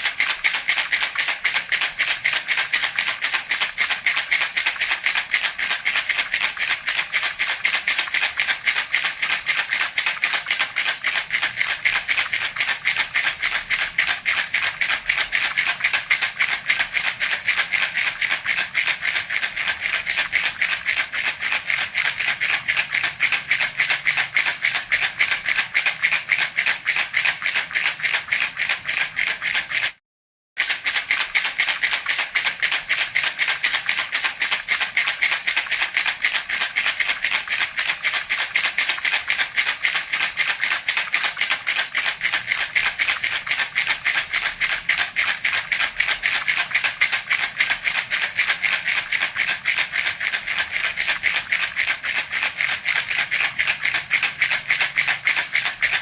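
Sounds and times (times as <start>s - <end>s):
baby rattle shaken: 0.0s - 30.0s, 30.6s - 56.0s.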